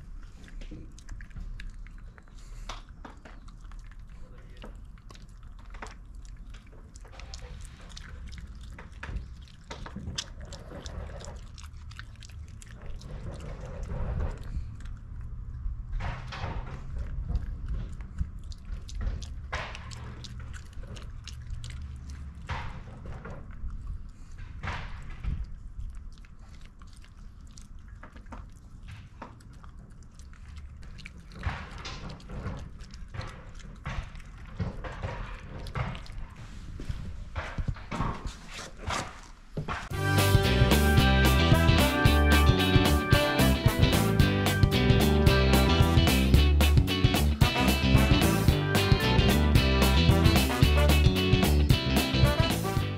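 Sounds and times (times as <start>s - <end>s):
dog chewing: 0.0s - 52.9s.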